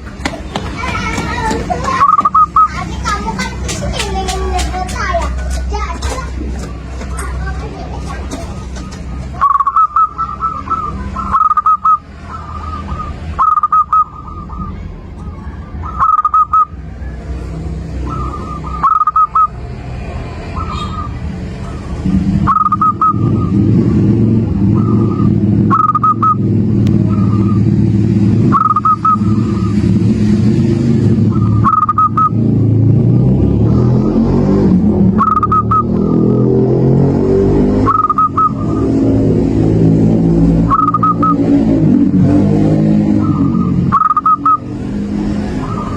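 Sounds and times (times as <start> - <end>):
loud low engine drone: 0.0 - 45.9
dove cooing: 0.9 - 3.6, 6.6 - 19.7, 20.4 - 27.8, 28.4 - 29.8, 31.2 - 32.5, 33.7 - 36.6, 37.7 - 45.9.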